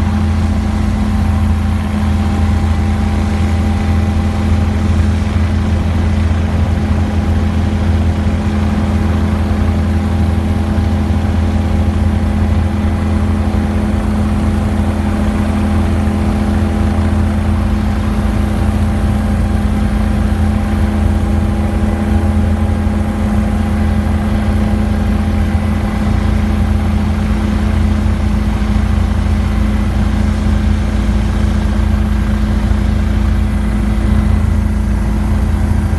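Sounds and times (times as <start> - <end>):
helicopter engine and rotor: 0.0 - 35.9.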